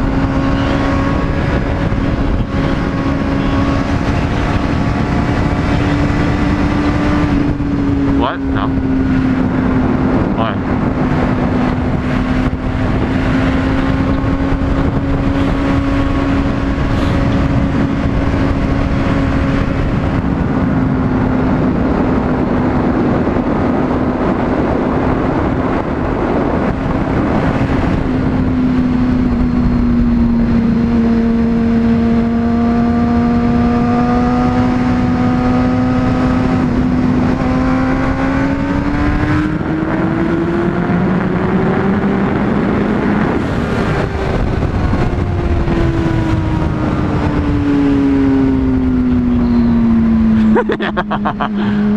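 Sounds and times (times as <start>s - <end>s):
motorcycle engine cruising: 0.0s - 51.9s
wind rush: 0.0s - 51.9s.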